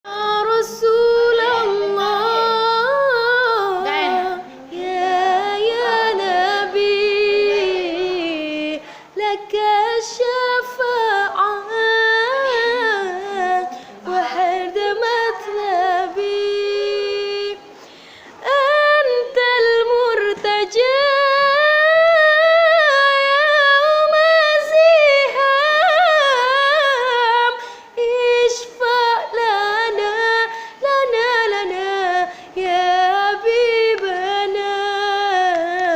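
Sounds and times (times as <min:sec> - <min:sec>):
woman singing unaccompanied: 0:00.0 - 0:35.9.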